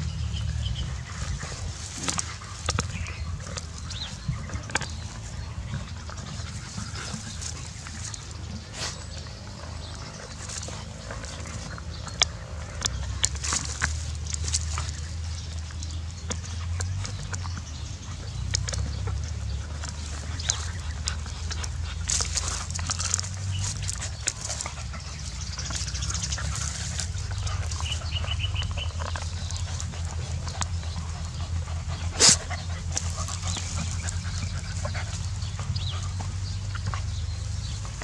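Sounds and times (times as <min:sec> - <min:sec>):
crunching and rustling leaves: 0:00.0 - 0:38.0
puppies chewing on dry stalk: 0:00.0 - 0:38.0.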